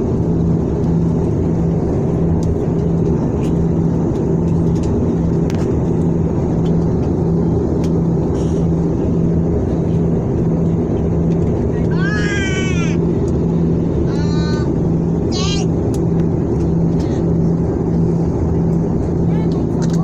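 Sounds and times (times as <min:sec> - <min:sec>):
jet cabin engine roar: 0:00.0 - 0:20.0
low even hum: 0:00.0 - 0:20.0.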